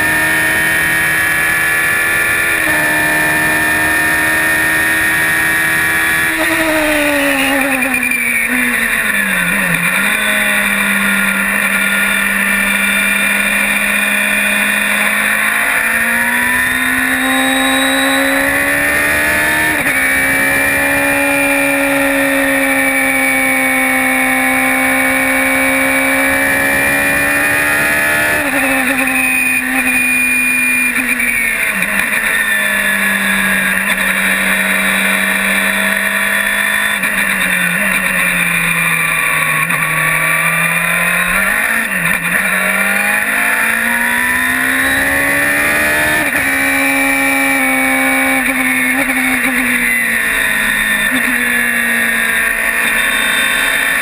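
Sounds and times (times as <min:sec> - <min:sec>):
race car engine running hard: 0:00.0 - 0:54.0.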